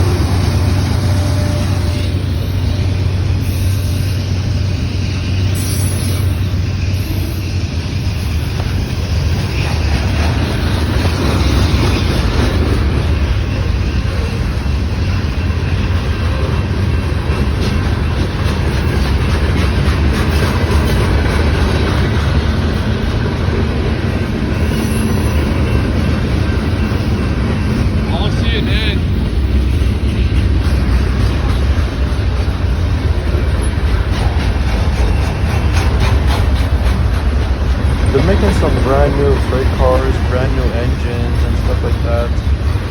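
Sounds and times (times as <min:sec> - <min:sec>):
train rolling past: 0:00.0 - 0:42.9.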